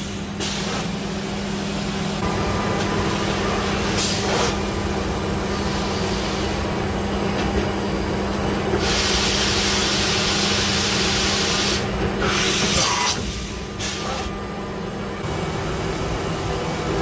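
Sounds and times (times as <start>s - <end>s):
machine hum: 1.0s - 12.3s, 13.2s - 17.0s.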